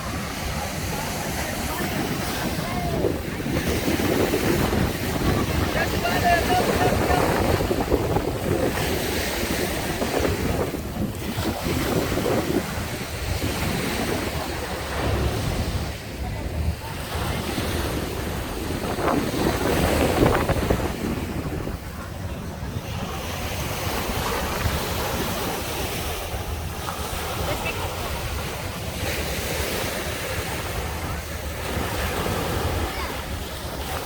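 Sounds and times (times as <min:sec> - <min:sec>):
ocean surf washing onto beach: 0:00.0 - 0:34.0
wind buffeting microphone: 0:00.0 - 0:34.0.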